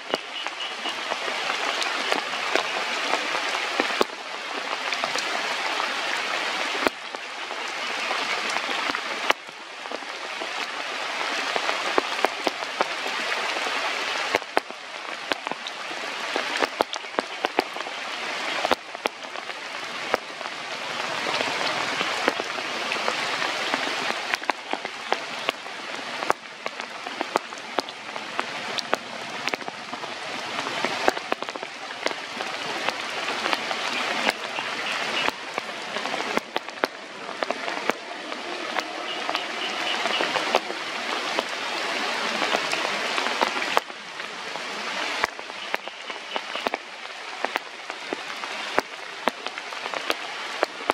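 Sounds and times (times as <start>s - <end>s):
sharp rain drops ticking: 0.0s - 50.9s
steady rain falling: 0.0s - 50.9s.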